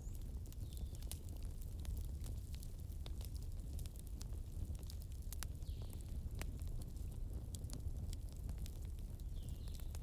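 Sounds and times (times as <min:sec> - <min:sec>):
bonfire crackling and popping: 0:00.0 - 0:10.0.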